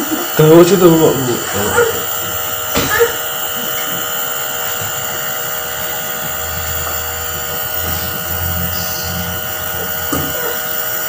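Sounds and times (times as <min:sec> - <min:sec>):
nebulizer compressor buzzing: 0:00.0 - 0:11.0
low hum: 0:01.2 - 0:10.8.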